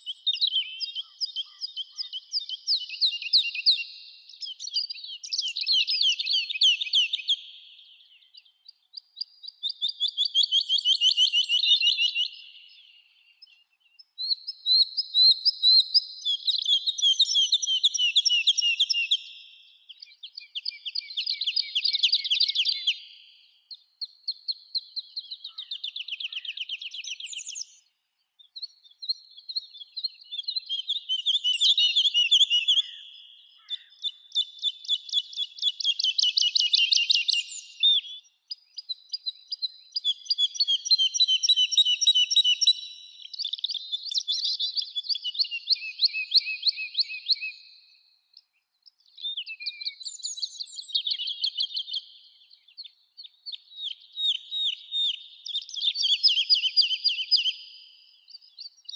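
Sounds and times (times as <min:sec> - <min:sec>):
songbirds singing trilled phrases: 0:00.0 - 0:58.9.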